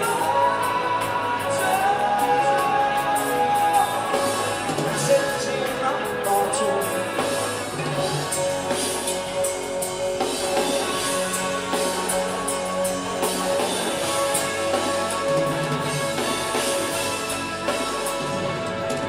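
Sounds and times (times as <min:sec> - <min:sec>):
rock band music: 0:00.0 - 0:19.0.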